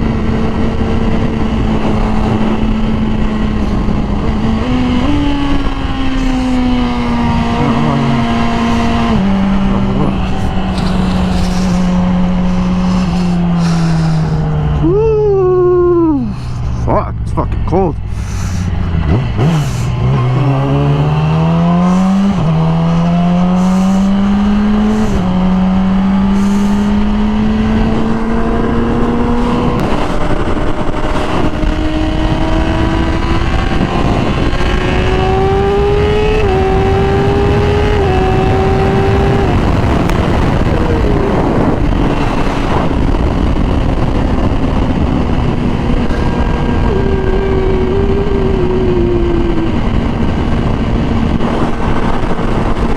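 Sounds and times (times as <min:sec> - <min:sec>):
steady rushing noise: 0:00.0 - 0:25.7, 0:27.6 - 0:52.9
motorcycle engine accelerating: 0:00.0 - 0:52.9.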